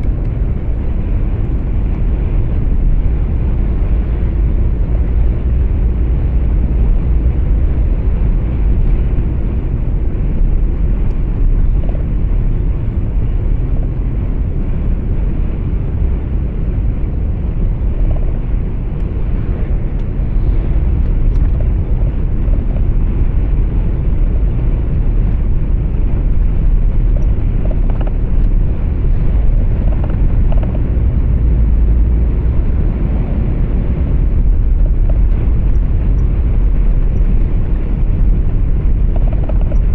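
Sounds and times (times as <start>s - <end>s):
truck road and engine rumble: 0.0s - 39.9s.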